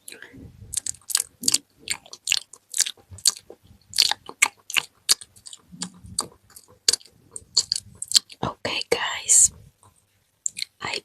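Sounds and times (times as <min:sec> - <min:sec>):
wet tongue and lip clicks: 0:00.1 - 0:10.8.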